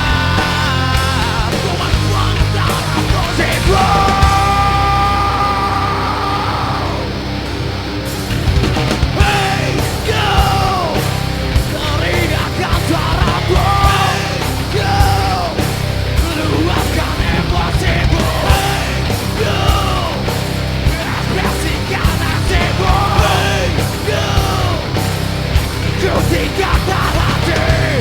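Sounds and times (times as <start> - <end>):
person yelling and singing: 0.0 - 7.2, 9.1 - 25.1, 25.8 - 28.0
drums: 0.0 - 28.0
electric guitars: 0.0 - 28.0.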